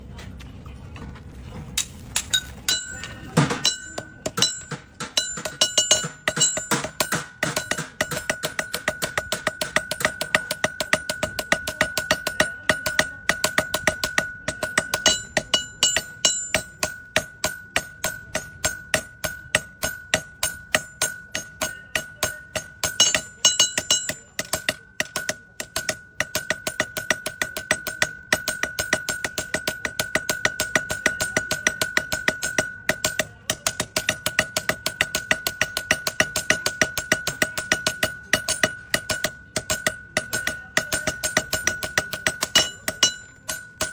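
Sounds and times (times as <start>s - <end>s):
anvil ringing: 1.8s - 43.9s
hammer striking metal on anvil: 1.8s - 43.9s.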